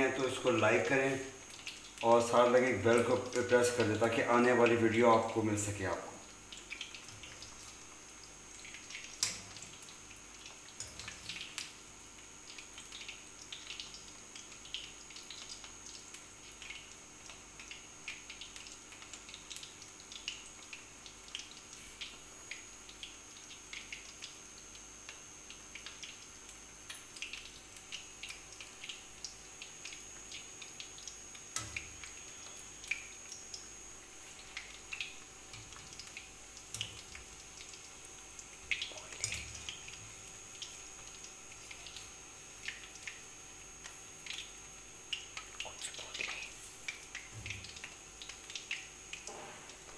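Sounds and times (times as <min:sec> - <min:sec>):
deep-frying sizzle with pops: 0:00.0 - 0:49.9.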